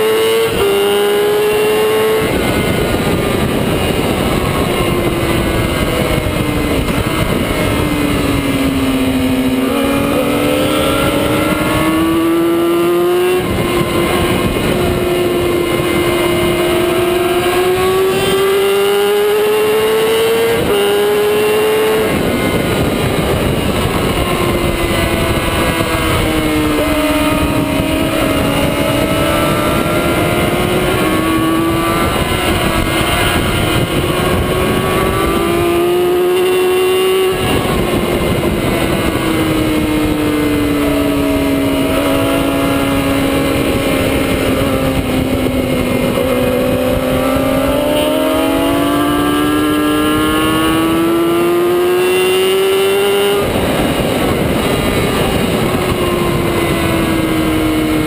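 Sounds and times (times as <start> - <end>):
motorbike engine racing: 0.0 - 58.0
wind rush: 0.0 - 58.0.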